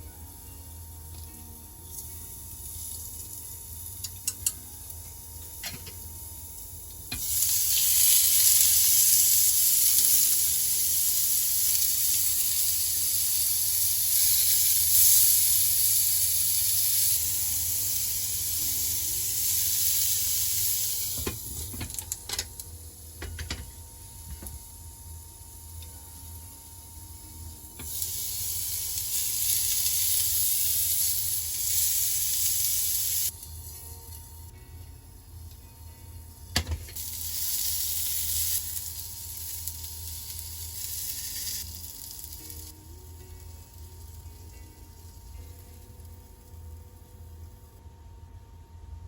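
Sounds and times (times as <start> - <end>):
food sizzling in a frying pan: 1.0 - 47.8.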